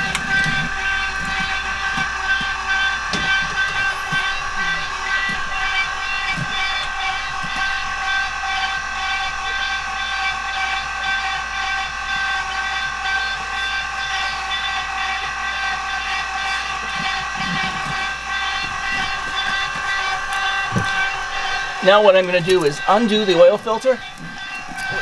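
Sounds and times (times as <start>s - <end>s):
electric pump whining: 0.0s - 25.0s.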